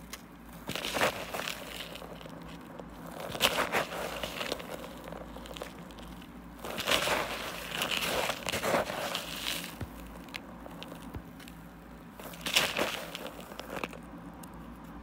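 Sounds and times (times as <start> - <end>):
hand raking through mothballs: 0.0 - 14.0.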